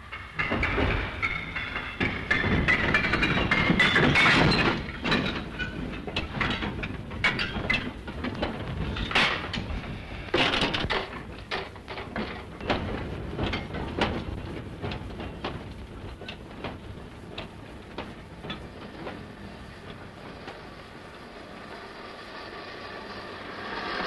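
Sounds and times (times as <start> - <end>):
train wagons clanking: 0.0 - 24.0.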